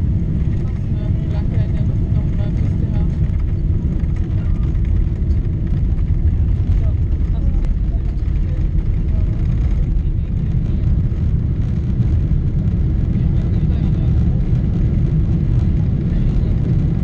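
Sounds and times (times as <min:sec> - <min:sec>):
airliner cabin low rumble: 0:00.0 - 0:17.0.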